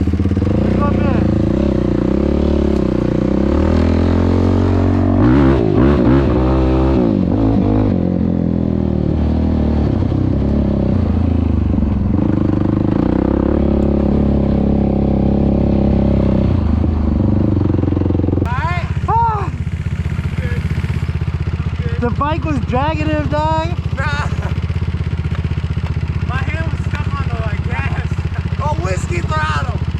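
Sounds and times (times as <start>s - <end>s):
off-road engine revving: 0.0s - 29.9s.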